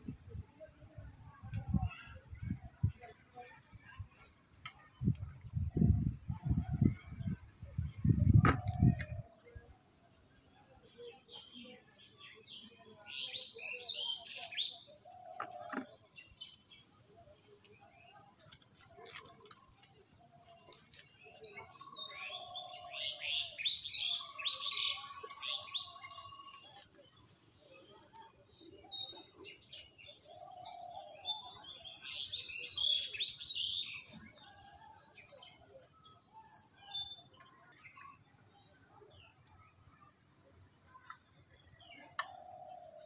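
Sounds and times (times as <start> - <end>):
small birds chirping: 1.5 - 43.0.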